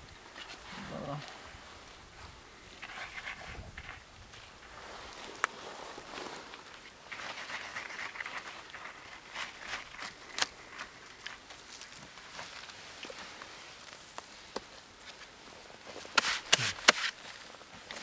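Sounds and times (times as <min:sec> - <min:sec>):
clicks and scrapes in soil: 0:00.0 - 0:18.0.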